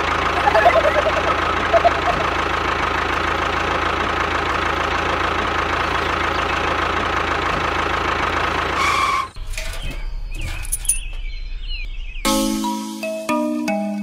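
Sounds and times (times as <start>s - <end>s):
tractor engine idling: 0.0s - 11.9s.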